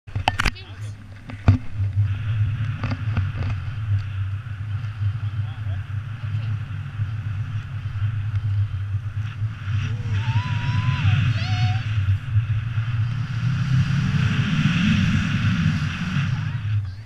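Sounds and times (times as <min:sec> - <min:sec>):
wind rumble on microphone: 0:00.1 - 0:17.0.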